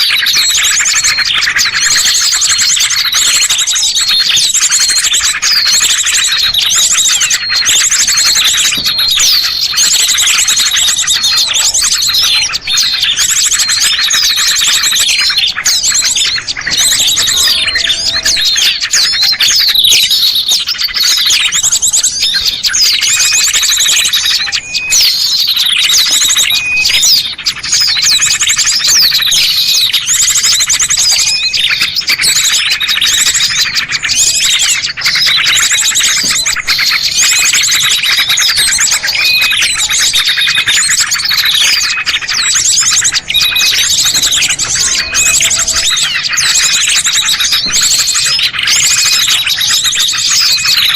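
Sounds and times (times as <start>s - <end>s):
songbirds chirping and trilling: 0.0s - 50.9s.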